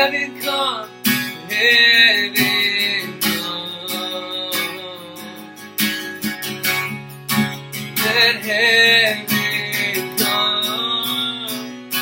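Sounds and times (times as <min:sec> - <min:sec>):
man singing: 0:00.0 - 0:05.8, 0:07.8 - 0:12.0
acoustic guitar strumming: 0:00.0 - 0:12.0.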